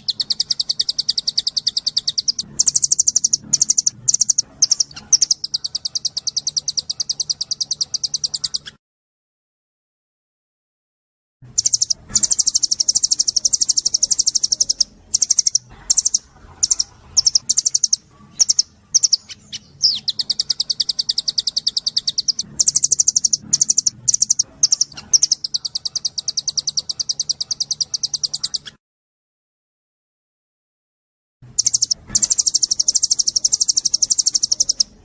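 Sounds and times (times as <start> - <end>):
small bird singing high trills: 0.0 - 8.8, 11.5 - 28.8, 31.5 - 35.0.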